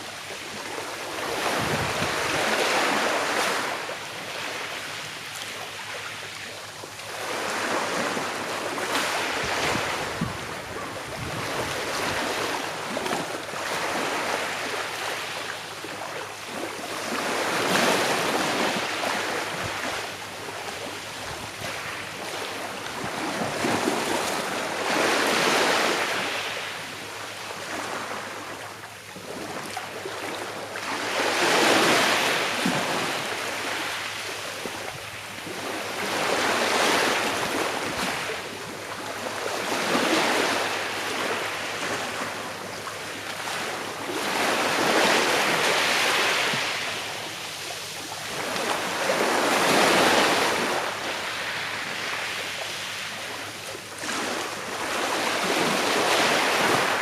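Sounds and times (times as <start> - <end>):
sea waves washing on shore: 0.0 - 57.0.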